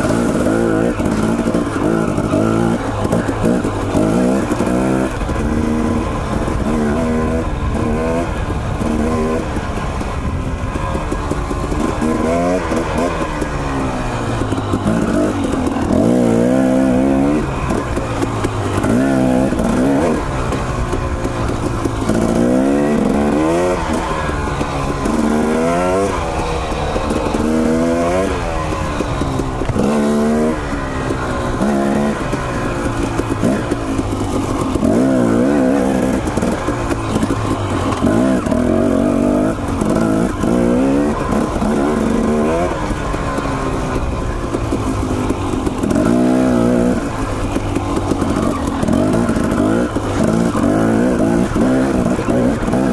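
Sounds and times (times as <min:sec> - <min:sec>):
dirt bike engine revving: 0:00.0 - 0:52.9
steady rushing noise: 0:00.0 - 0:52.9.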